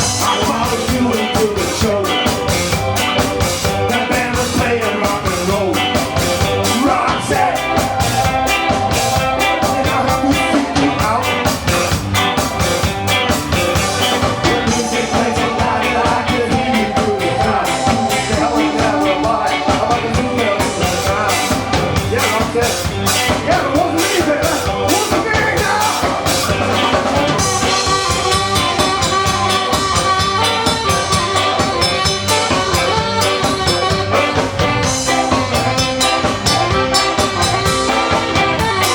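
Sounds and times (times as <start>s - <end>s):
person singing: 0.0s - 12.0s, 13.9s - 38.9s
ska band playing live: 0.0s - 38.9s.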